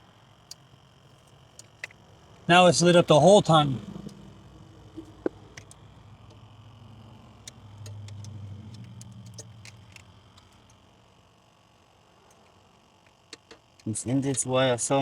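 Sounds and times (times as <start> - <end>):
low hum: 0.0 - 13.2.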